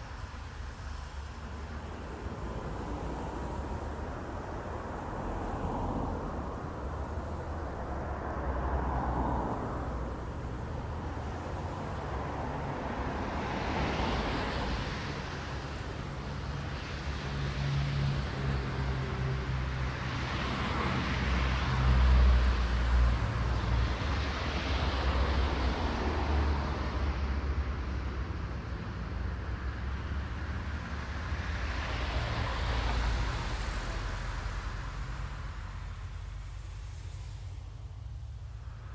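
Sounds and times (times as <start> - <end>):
cars passing: 0.0 - 38.9.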